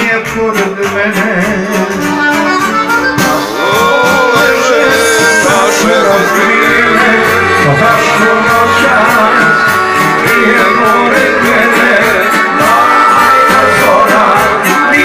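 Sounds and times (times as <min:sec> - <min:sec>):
accordion: 0:00.0 - 0:15.0
folk band music: 0:00.0 - 0:15.0.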